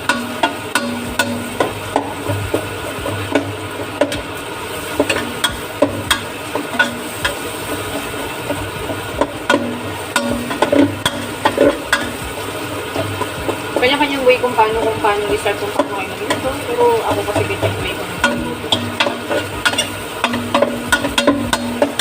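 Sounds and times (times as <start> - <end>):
utensil tapping against pan: 0.0 - 4.2, 5.0 - 22.0
onions sizzling in a pan: 0.0 - 22.0.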